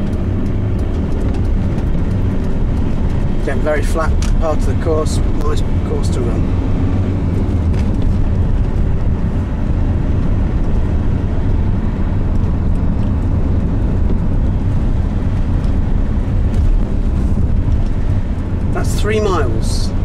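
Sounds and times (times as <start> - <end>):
car engine rumbling: 0.0 - 20.0
tyre noise on road: 0.0 - 20.0.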